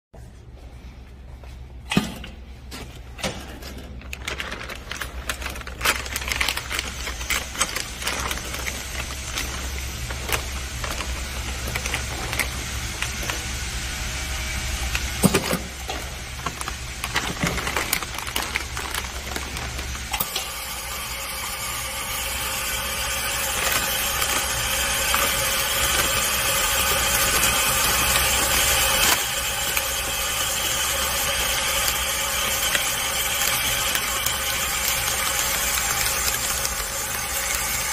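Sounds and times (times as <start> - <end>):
steady low hum: 0.2 - 34.8
plastic bag crinkling: 3.9 - 20.2, 22.2 - 37.9
vacuum machine whining hiss: 6.6 - 37.9.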